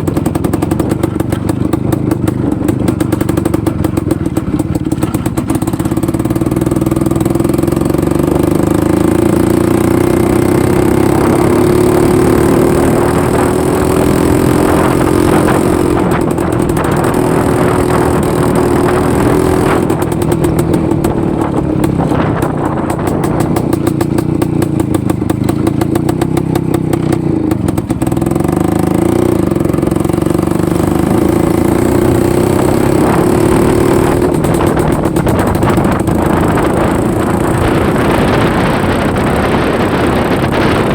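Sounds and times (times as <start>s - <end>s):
two-stroke motorcycle engine running: 0.0s - 40.9s.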